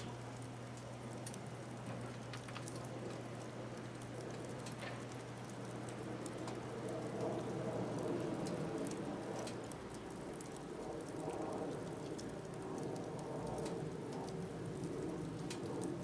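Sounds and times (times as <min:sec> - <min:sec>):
firewood crackling and popping: 0:00.0 - 0:16.0
low rush of fire: 0:00.0 - 0:16.0.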